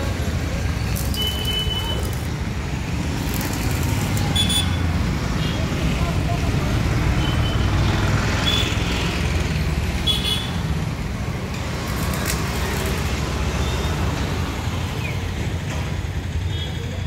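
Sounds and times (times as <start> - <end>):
vehicle rumbling in traffic: 0.0 - 17.0.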